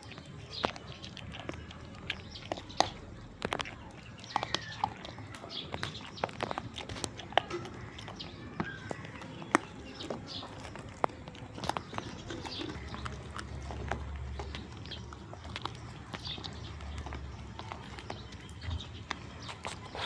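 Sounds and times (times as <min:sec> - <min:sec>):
goats eating and moving: 0:00.0 - 0:20.0.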